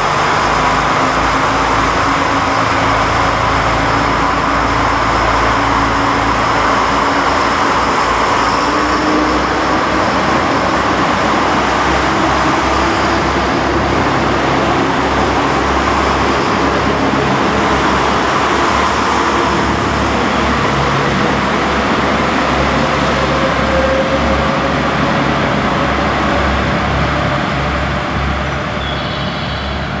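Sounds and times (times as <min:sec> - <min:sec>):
diesel engines under load: 0:00.0 - 0:30.0
train wheels rumbling on rails: 0:00.0 - 0:30.0.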